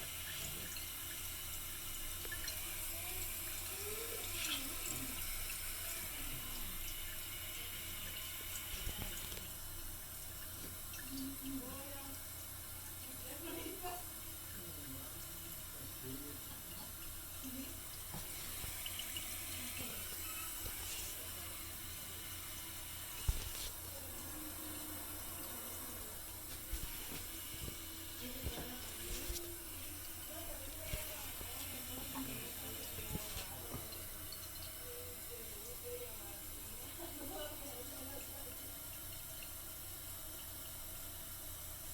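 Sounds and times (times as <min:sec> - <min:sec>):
toilet tank refilling hiss: 0:00.0 - 0:41.9.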